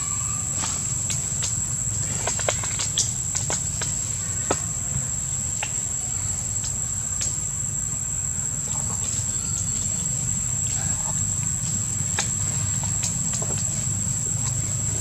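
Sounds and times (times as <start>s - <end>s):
dry leaves crackling underfoot: 0.0s - 7.8s, 8.4s - 15.0s
high-pitched insect drone: 0.0s - 15.0s.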